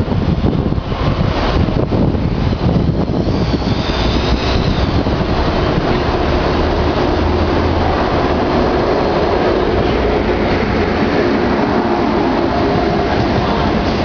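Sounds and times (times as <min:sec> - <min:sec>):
passenger train passing on track: 0:00.0 - 0:14.0.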